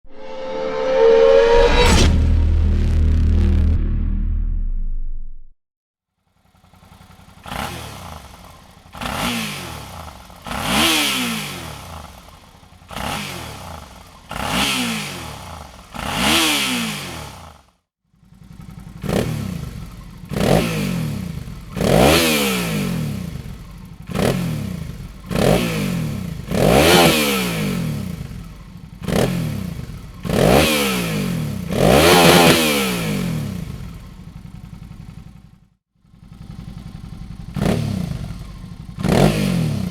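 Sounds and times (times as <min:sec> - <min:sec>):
motorcycle engine revving: 0:06.3 - 0:39.9.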